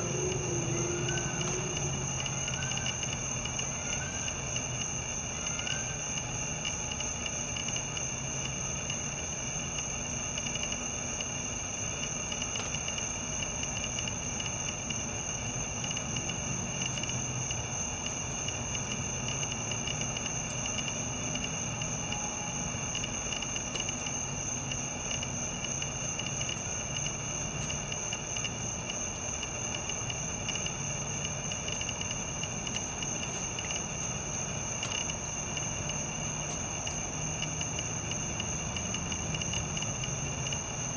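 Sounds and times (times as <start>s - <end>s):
faint low hum: 0.0s - 40.9s
insects trilling: 0.0s - 40.9s.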